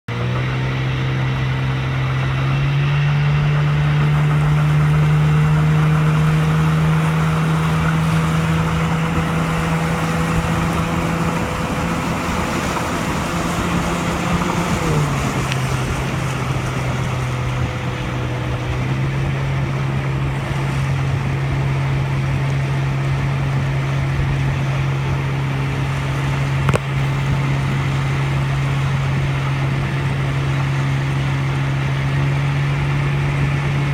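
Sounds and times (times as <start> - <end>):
outboard motor running: 0.0 - 33.9
water and wind hiss: 0.1 - 33.9.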